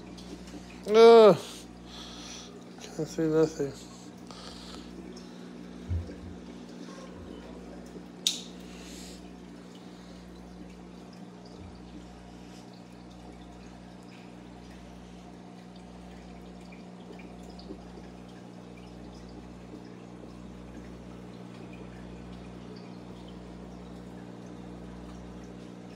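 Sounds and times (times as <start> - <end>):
aquarium pump humming: 0.0 - 25.9
water dripping and trickling: 0.0 - 25.9.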